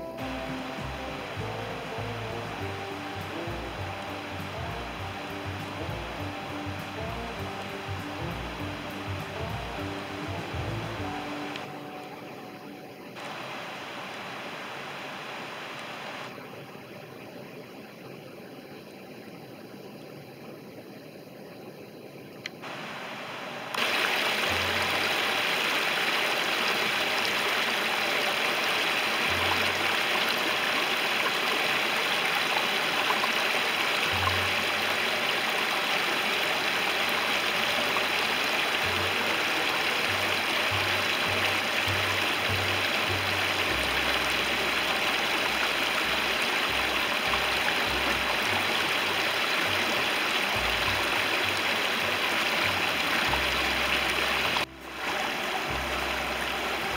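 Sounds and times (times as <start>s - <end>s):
water rushing over rocks: 0.0s - 12.1s, 13.2s - 16.7s, 22.5s - 56.9s.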